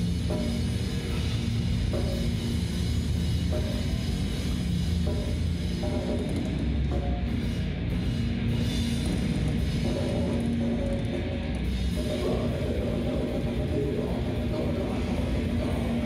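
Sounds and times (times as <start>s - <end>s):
distorted electric guitars: 0.0s - 16.0s
drum kit: 0.0s - 16.0s.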